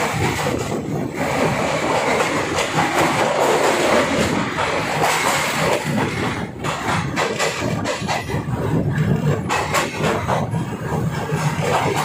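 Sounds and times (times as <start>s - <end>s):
train running noise: 0.0s - 12.0s
train wheels clacking over joints: 0.0s - 12.0s.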